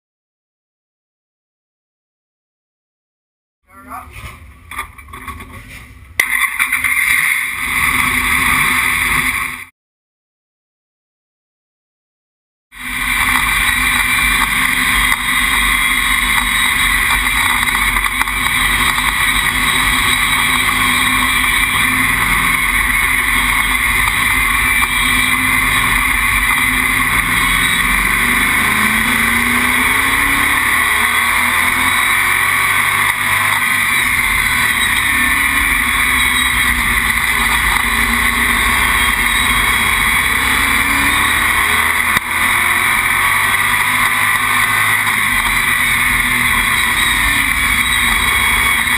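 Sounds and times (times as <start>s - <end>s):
wind and road noise: 3.8s - 9.7s, 12.8s - 48.9s
race car engine revving: 6.2s - 9.6s, 12.8s - 48.9s.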